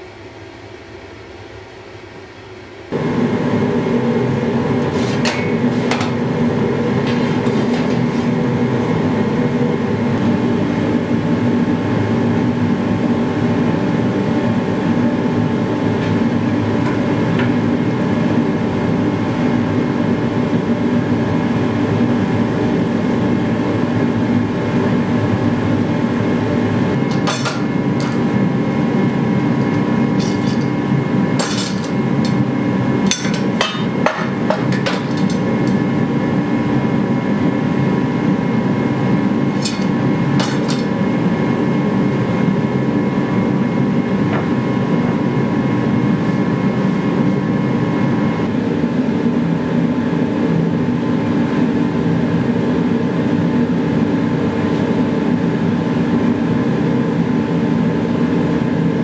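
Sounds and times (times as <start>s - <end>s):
gas forge roaring: 0.0s - 59.0s.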